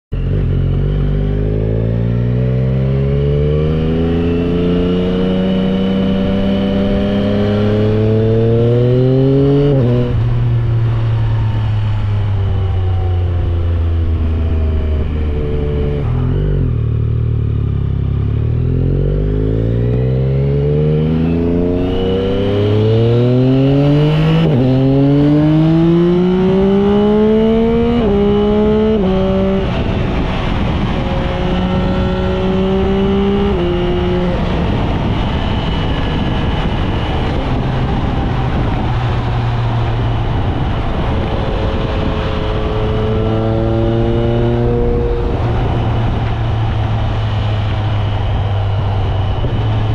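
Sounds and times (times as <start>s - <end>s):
motorcycle engine revving: 0.2s - 49.9s.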